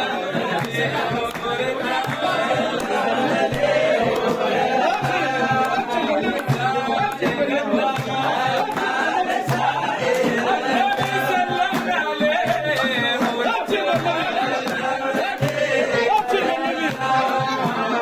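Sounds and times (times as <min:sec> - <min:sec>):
group chanting praise song: 0:00.0 - 0:18.0
steady percussive beat: 0:00.0 - 0:18.0.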